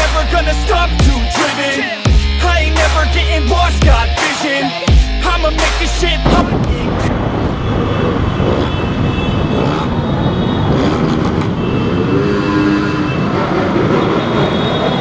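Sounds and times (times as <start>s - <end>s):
motorcycle engines revving: 2.4s - 15.0s.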